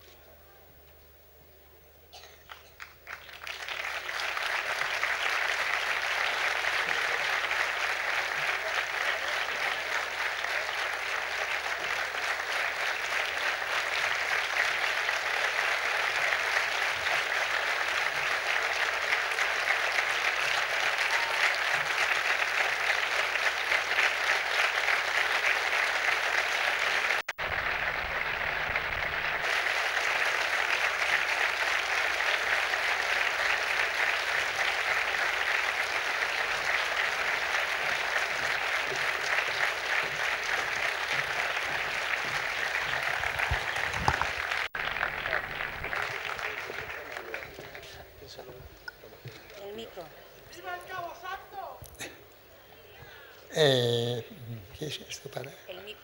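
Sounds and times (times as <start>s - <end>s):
audience applauding: 2.5s - 48.5s.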